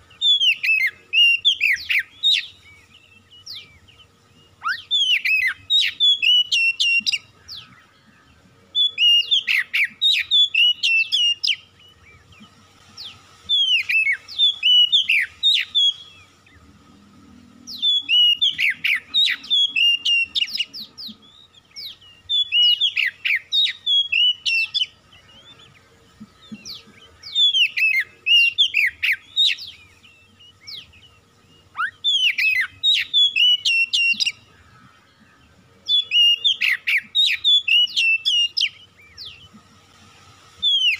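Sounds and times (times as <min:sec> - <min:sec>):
bird singing whistled phrases: 0:00.0 - 0:07.9, 0:08.7 - 0:12.4, 0:13.0 - 0:16.3, 0:17.6 - 0:25.8, 0:26.4 - 0:34.7, 0:35.8 - 0:39.5, 0:40.6 - 0:40.9.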